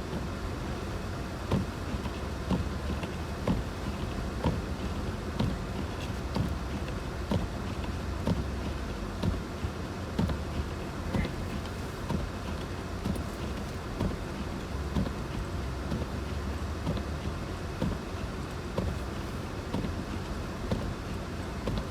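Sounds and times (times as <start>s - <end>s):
road and engine rumble: 0.0s - 21.9s.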